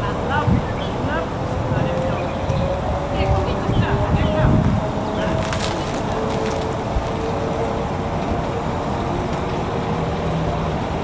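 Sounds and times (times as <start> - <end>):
outdoor noise: 0.0 - 11.0.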